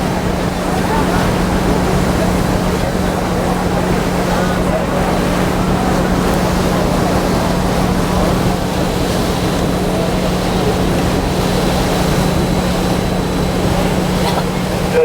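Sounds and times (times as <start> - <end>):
boat engine low hum: 0.0 - 15.0
rushing water: 0.0 - 15.0
wind: 0.0 - 15.0.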